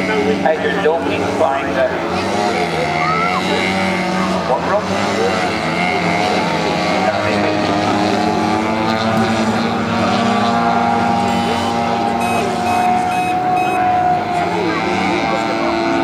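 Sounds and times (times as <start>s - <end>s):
model aircraft engine droning: 0.0s - 16.0s.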